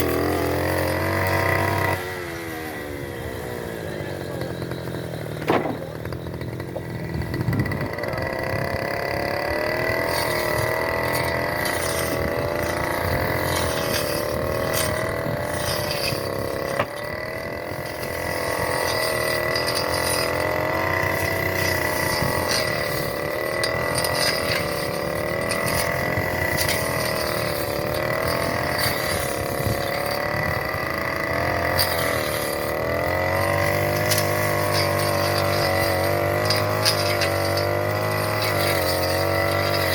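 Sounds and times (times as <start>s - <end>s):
grass cutter engine running: 0.0s - 39.9s.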